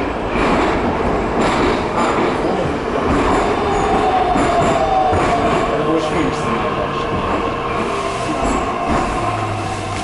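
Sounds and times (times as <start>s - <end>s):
metro train rumble: 0.0s - 10.0s.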